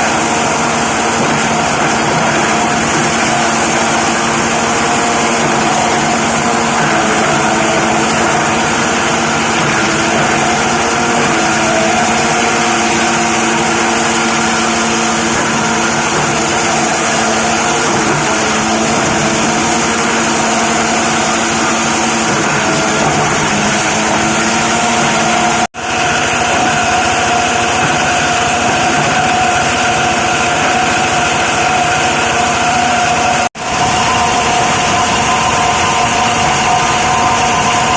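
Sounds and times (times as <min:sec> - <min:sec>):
plastic crusher machine running: 0:00.0 - 0:37.9.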